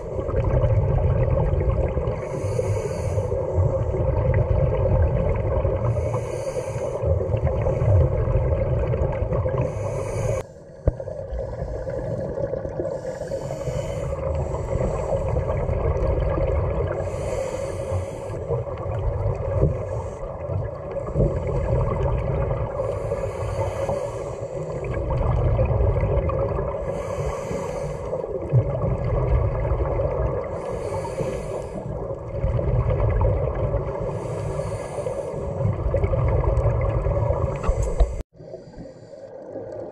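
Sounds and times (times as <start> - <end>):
low underwater hum: 0.0 - 39.9.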